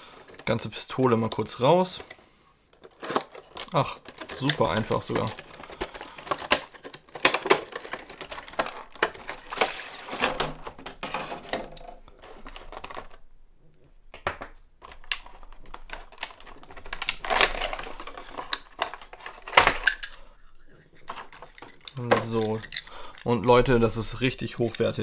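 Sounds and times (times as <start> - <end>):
plastic packaging clicks and crinkles: 0.0 - 13.3, 14.1 - 20.3, 20.9 - 25.0.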